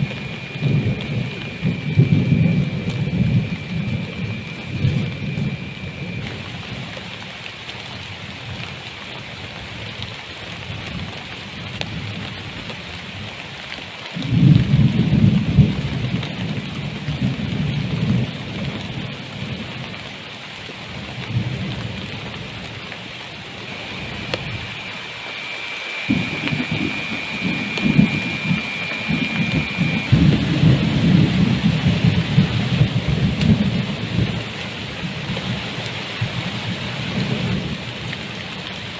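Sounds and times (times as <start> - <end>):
thunder rumbling: 0.0 - 8.9, 14.1 - 38.9
heavy rain falling: 0.0 - 38.9.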